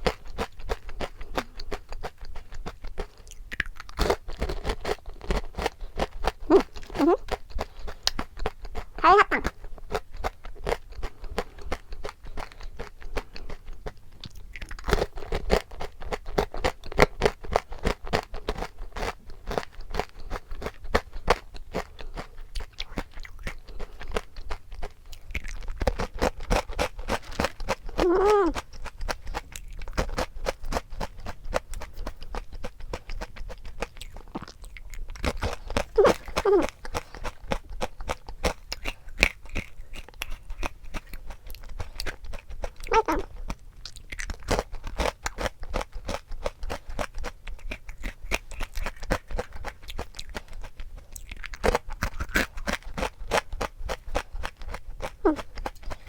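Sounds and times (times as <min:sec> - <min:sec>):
crunchy snack chewing: 0:00.0 - 0:56.0.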